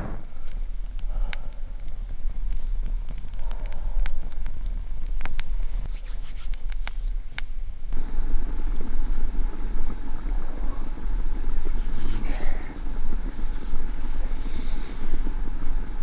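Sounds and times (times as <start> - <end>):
steady low rumbling: 0.0 - 6.0, 6.7 - 16.0
campfire crackling and popping: 0.0 - 16.0.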